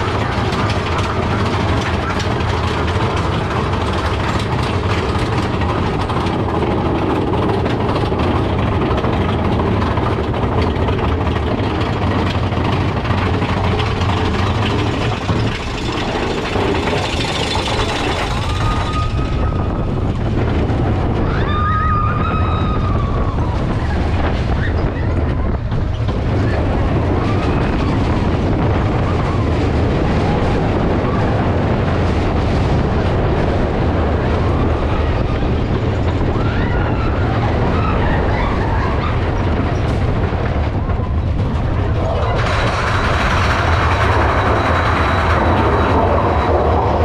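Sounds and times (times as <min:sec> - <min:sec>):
roller coaster rumbling on rails: 0:00.0 - 0:47.0.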